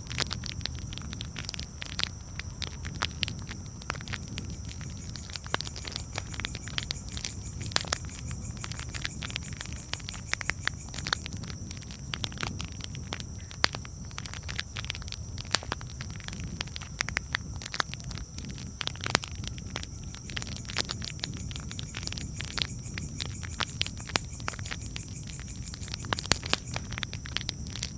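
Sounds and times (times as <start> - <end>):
campfire crackling: 0.1 - 27.9.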